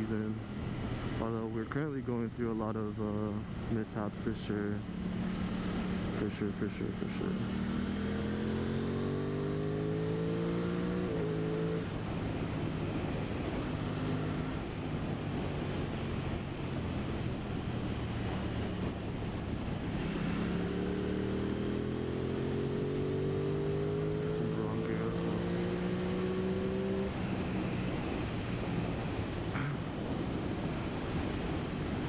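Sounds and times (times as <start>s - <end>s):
motorcycle engine accelerating: 4.8s - 32.0s.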